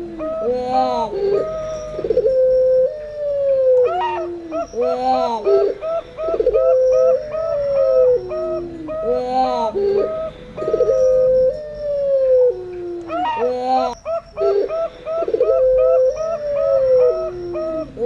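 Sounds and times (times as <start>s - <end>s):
long descending dove coo: 0.0s - 18.0s.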